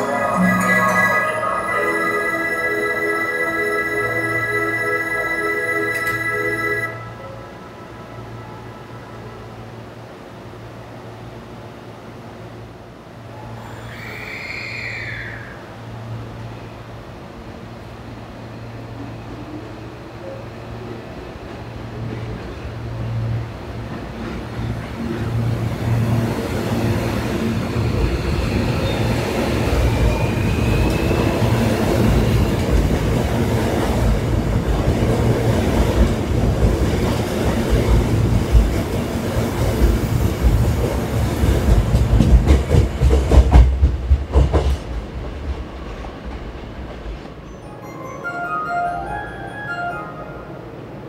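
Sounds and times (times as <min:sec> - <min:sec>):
electric train humming: 0:00.0 - 0:51.0.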